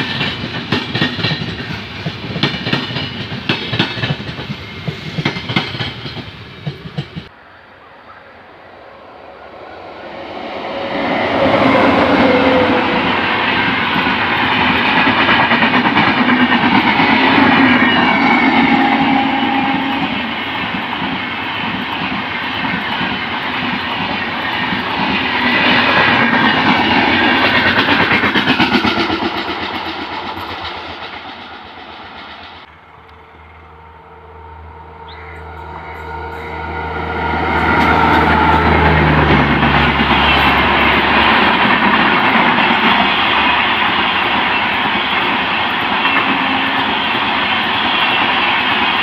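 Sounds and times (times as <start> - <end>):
train wheels clattering over rails: 0.0 - 7.3, 11.3 - 32.7, 37.5 - 49.0
distant train noise: 0.0 - 49.0.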